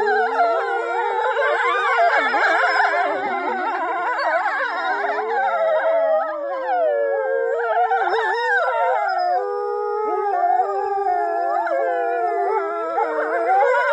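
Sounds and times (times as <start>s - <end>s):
wolves howling: 0.0s - 13.9s
woman howling: 0.0s - 13.9s.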